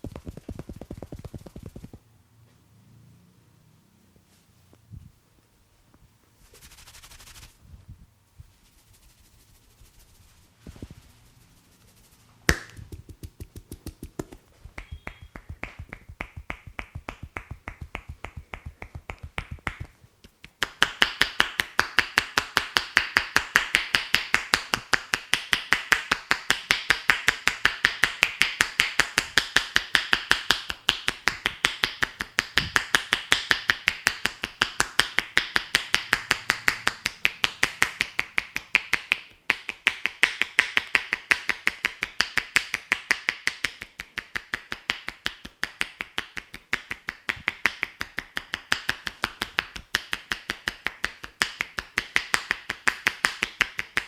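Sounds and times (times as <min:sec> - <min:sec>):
hands tapping a head: 0:00.0 - 0:02.0, 0:12.5 - 0:54.0.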